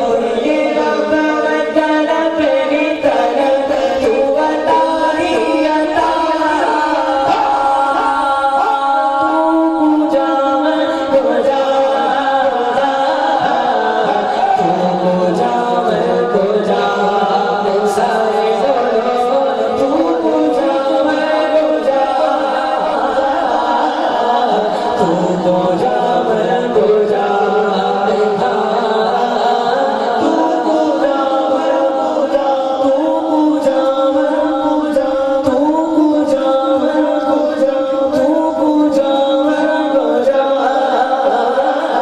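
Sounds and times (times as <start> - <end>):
a cappella voices singing: 0.0 - 42.0.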